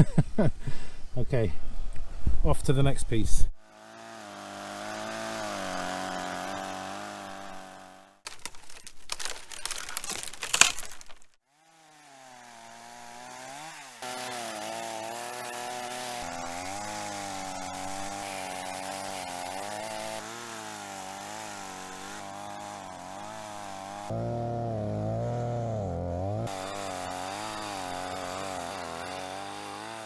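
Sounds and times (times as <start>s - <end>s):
chainsaw engine revving: 3.6s - 8.5s, 9.2s - 30.0s
chainsaw cutting log: 3.6s - 30.0s.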